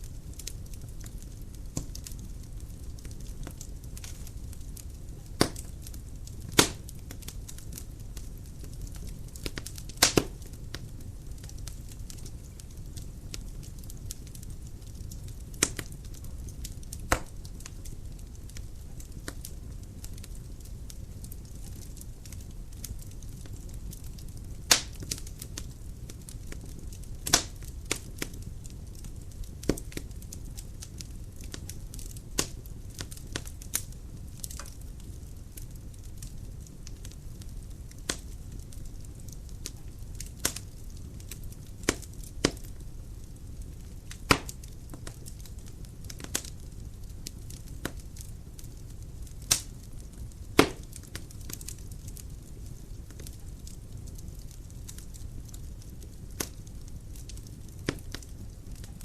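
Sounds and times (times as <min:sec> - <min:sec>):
low rumble of flame: 0:00.0 - 0:59.0
wood crackling and popping: 0:00.0 - 0:59.0.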